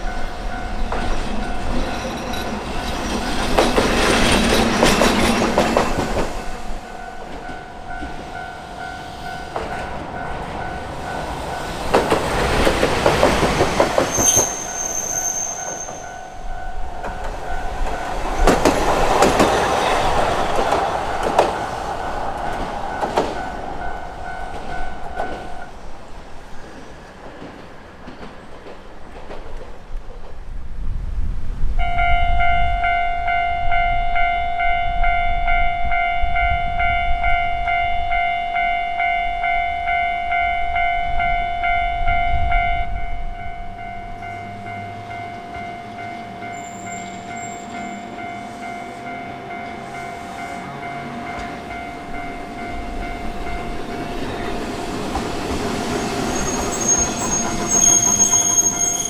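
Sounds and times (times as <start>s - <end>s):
level-crossing warning bell: 0.0s - 26.0s, 31.8s - 59.0s
tram rumbling past: 0.0s - 59.0s.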